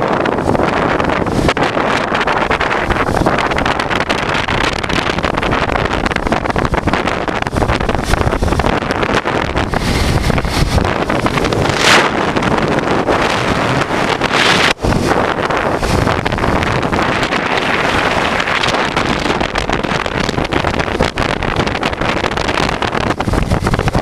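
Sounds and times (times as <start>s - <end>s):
wind buffeting microphone: 0.0s - 24.0s
motorcycle engine cruising: 1.5s - 24.0s.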